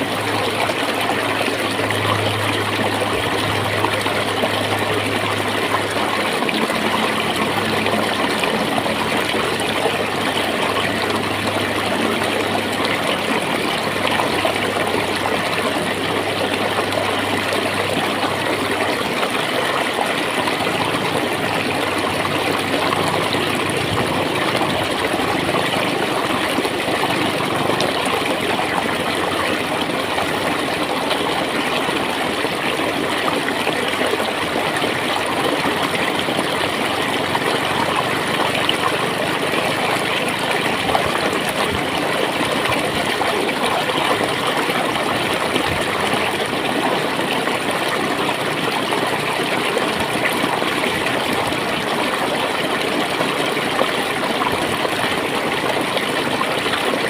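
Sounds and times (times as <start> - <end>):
water gurgling over rocks: 0.0 - 57.0.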